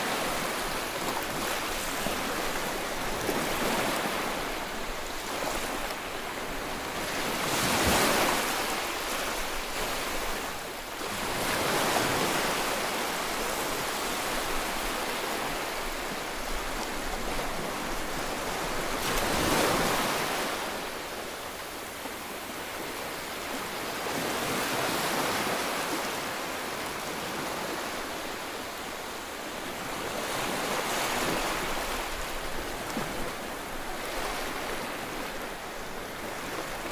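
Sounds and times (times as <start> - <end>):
ocean waves: 0.0 - 36.9.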